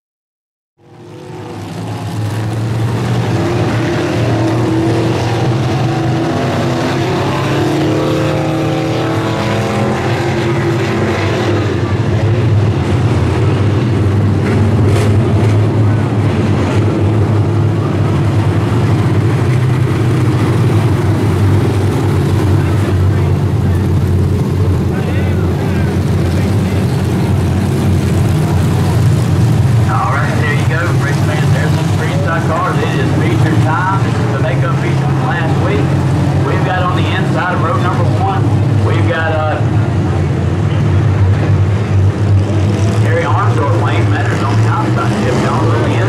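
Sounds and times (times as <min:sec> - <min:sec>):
stock car engines droning: 0:00.8 - 0:46.0.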